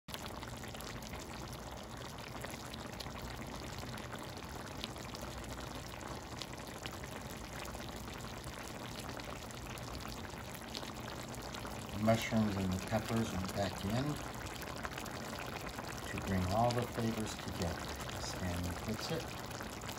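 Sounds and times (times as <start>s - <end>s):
sauce bubbling and popping: 0.1s - 19.9s.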